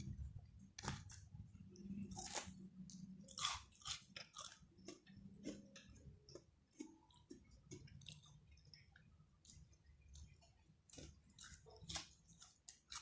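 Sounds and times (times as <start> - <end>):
person chewing and biting: 1.8 - 13.0.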